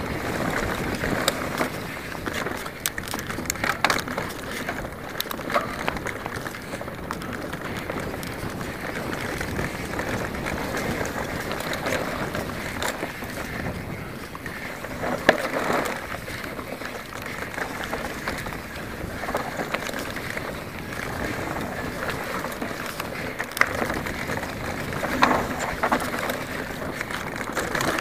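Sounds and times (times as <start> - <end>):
mountain bike rattling: 0.0 - 28.0
wind rush on microphone: 0.0 - 28.0.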